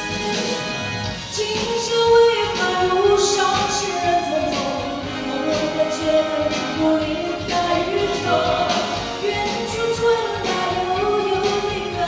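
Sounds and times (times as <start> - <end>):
pop ballad with singing: 0.0 - 12.0.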